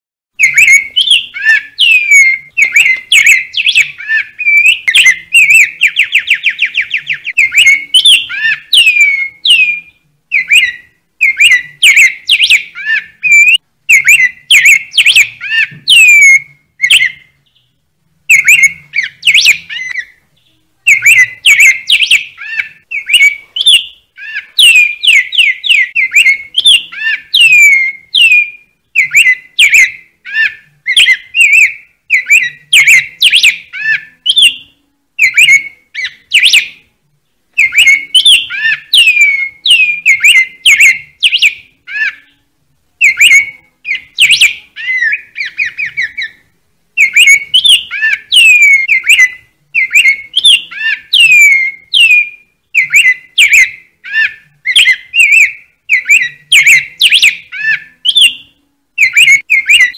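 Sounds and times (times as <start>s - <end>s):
bird chirping: 0.4s - 59.9s
bird trill: 0.4s - 59.9s.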